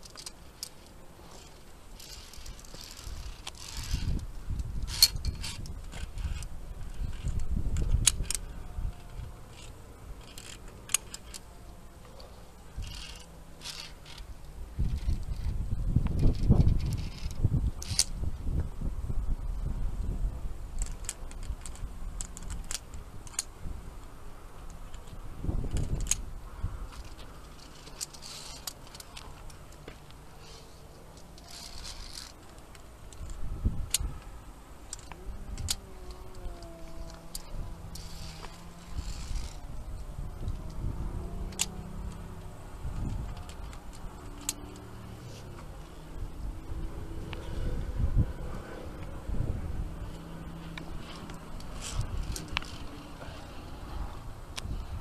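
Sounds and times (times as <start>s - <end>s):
carabiners clinking on steel cable: 0.0s - 18.2s, 20.7s - 47.8s, 49.9s - 54.7s.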